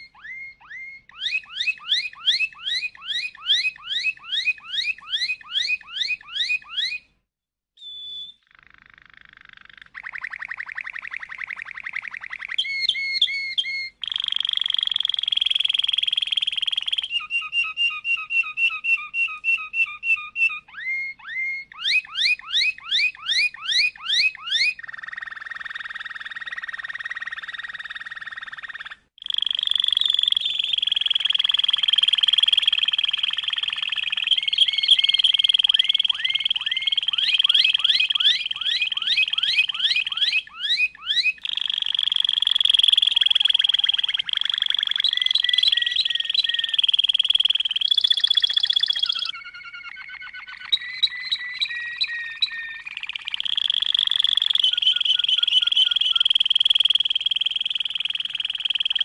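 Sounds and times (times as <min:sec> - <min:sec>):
canary singing trills: 0:00.0 - 0:07.1, 0:07.8 - 0:59.0.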